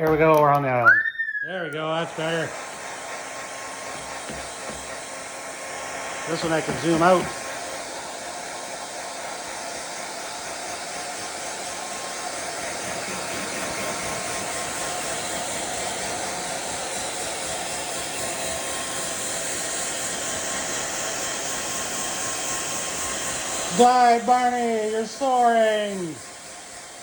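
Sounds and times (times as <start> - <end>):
hair dryer blowing: 0.0 - 27.0.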